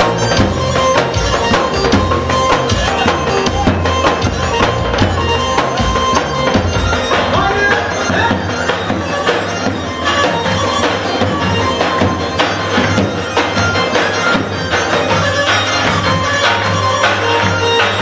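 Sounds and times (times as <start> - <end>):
folk music with steady beat: 0.0 - 18.0.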